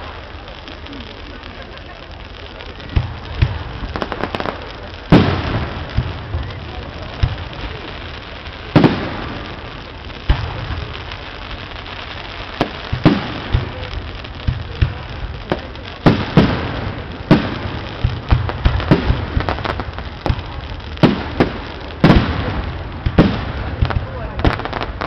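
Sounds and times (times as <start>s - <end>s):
firework bangs with echo: 0.0s - 25.0s.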